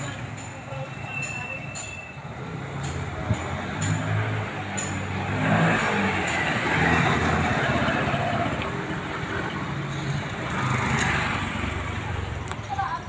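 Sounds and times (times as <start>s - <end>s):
passing vehicle engine and road noise: 0.0s - 13.0s.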